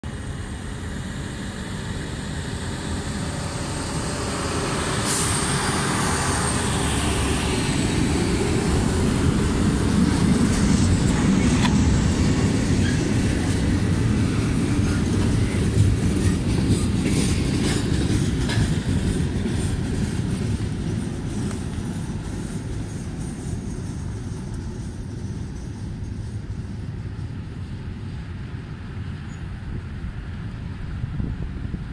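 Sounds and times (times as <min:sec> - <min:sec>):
truck and rail wheels rumbling: 0:00.0 - 0:31.9.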